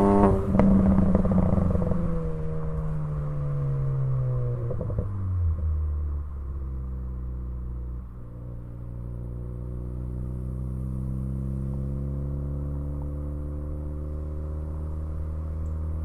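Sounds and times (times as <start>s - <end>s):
car engine and exhaust droning: 0.0s - 16.0s.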